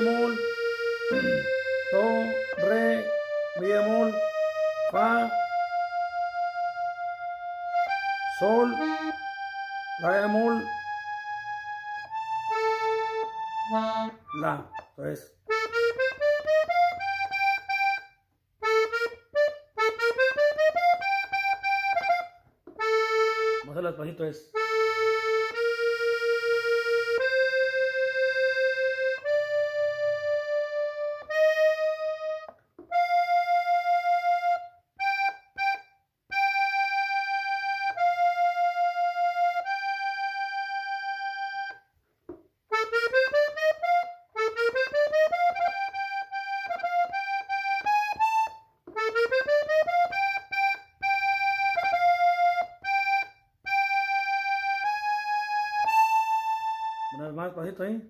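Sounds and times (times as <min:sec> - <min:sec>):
button accordion melody: 0:00.0 - 0:58.0.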